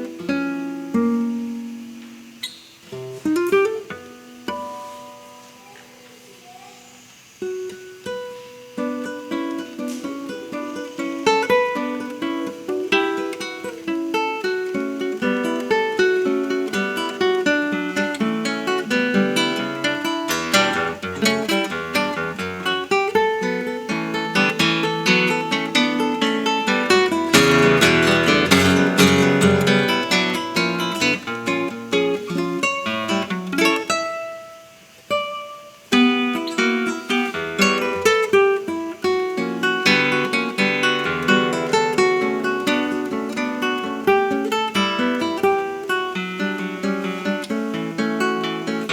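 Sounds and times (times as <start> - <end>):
solo acoustic guitar: 0.0 - 48.9.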